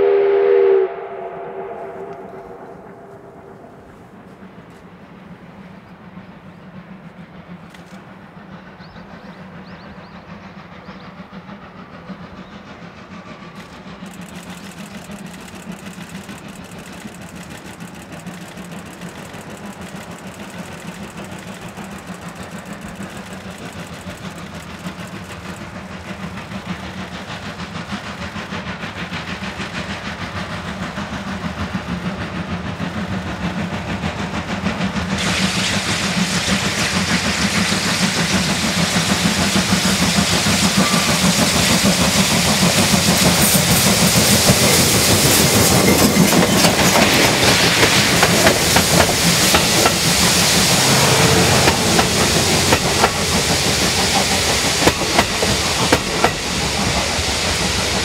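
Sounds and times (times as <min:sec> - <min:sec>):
loud steam hiss: 0:00.0 - 0:58.0
steam locomotive exhaust beats: 0:00.0 - 0:58.0.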